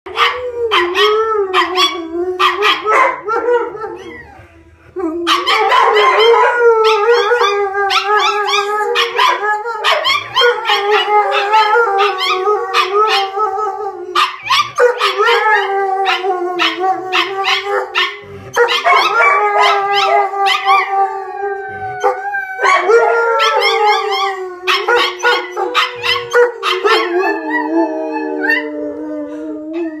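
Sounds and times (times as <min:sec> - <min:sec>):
dog howling: 0:00.1 - 0:30.0.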